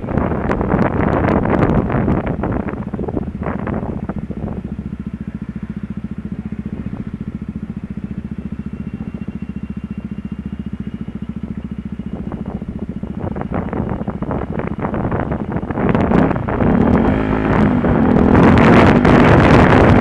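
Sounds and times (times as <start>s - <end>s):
motorcycle engine idling: 0.0s - 20.0s
rushing wind noise: 0.0s - 20.0s.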